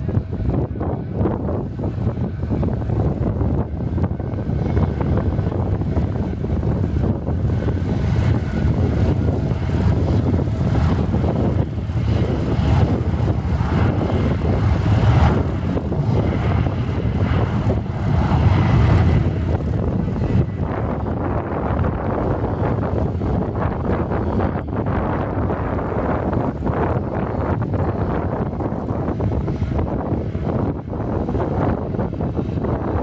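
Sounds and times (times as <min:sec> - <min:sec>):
propeller plane engine: 0:00.0 - 0:33.0.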